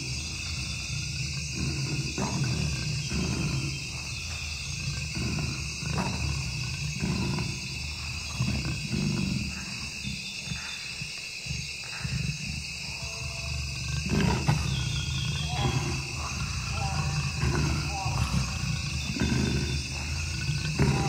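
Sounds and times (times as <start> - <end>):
deep rough animal calls: 0.0 - 21.0
high-pitched insect chorus: 0.0 - 21.0.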